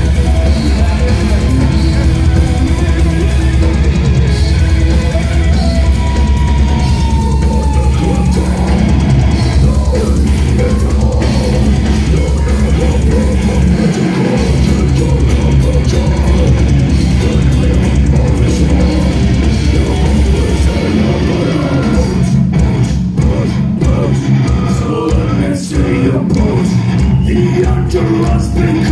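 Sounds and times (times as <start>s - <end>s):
death metal band playing live: 0.0s - 28.9s.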